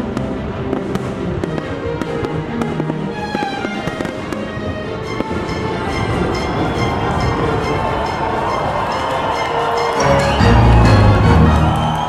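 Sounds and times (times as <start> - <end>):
fireworks bursting: 0.0 - 12.0
music playing: 0.0 - 12.0.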